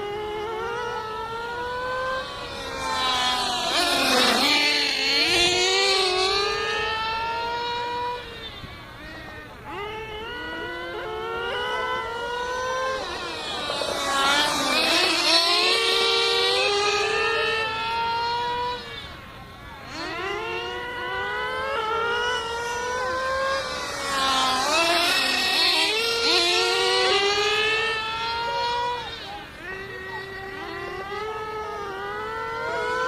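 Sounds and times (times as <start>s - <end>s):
high-revving model car engines: 0.0s - 33.0s.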